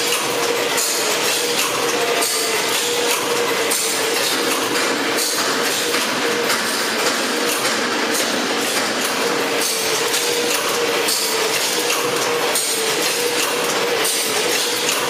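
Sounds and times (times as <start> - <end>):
packing machine clattering: 0.0 - 15.0
steady machine tone: 0.0 - 15.0.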